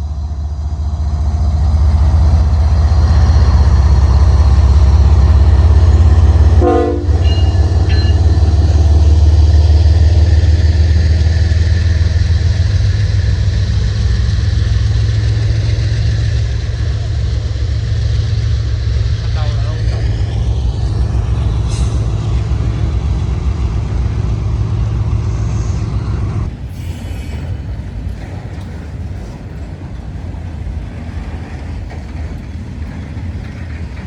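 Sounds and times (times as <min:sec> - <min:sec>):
diesel locomotive engines rumbling: 0:00.0 - 0:34.0.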